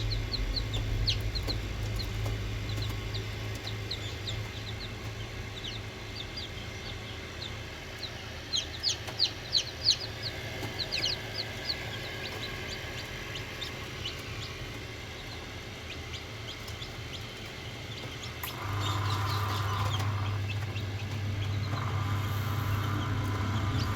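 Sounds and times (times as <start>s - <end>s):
loud machine hum: 0.0s - 23.9s
low hum: 0.0s - 23.9s
chickens clucking: 0.1s - 23.9s.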